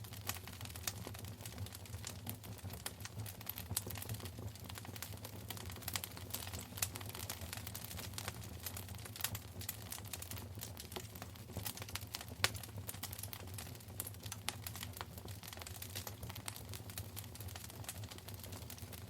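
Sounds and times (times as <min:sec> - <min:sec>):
low rumble of burning: 0:00.0 - 0:19.0
wood fire crackling: 0:00.0 - 0:19.0.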